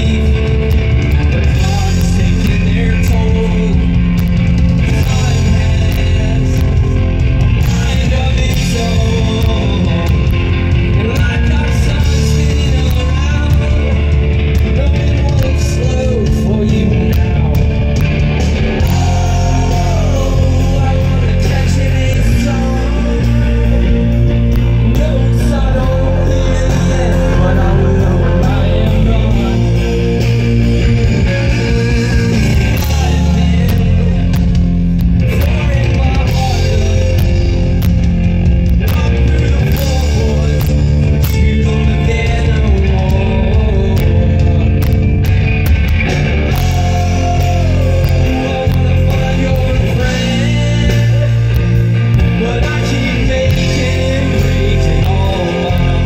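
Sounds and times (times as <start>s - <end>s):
person singing: 0.0s - 38.0s, 38.7s - 45.3s, 46.4s - 56.0s
bass guitar: 0.0s - 56.0s
drums: 0.0s - 56.0s
electric guitars: 0.0s - 56.0s
loud live rock music: 0.0s - 56.0s.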